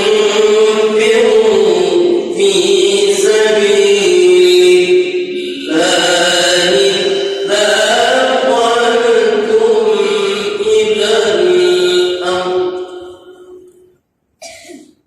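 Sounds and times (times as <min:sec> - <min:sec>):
man chanting melodically: 0:00.0 - 0:13.9.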